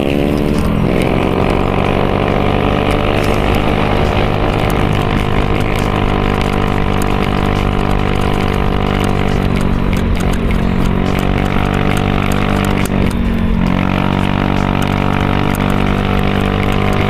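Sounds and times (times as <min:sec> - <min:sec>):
background music low tones: 0:00.0 - 0:17.0
road and wind noise: 0:00.0 - 0:17.0
scooter engine cruising: 0:00.0 - 0:17.0.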